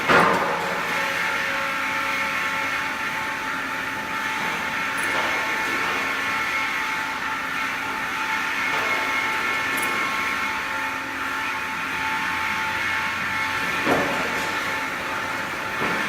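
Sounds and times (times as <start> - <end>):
bandsaw machine whine: 0.0 - 16.0.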